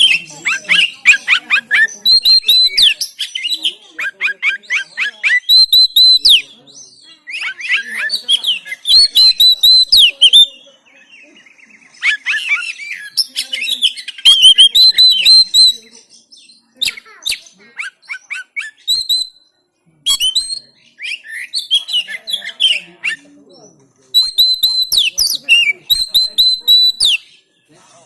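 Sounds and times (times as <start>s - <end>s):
bird singing whistled notes: 0.0s - 19.5s, 20.1s - 27.7s.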